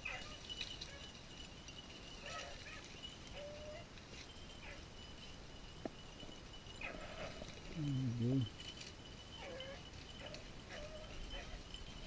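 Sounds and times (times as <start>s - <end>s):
dogs yipping and barking: 0.0s - 7.8s, 8.6s - 12.0s.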